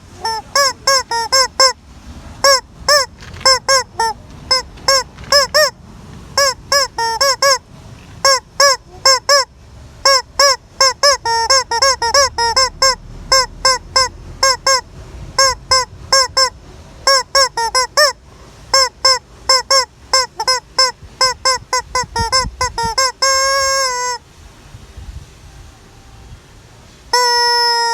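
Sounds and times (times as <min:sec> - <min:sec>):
rubber chicken toy squeaking: 0:00.0 - 0:01.8, 0:02.4 - 0:05.8, 0:06.4 - 0:24.2, 0:27.1 - 0:27.9.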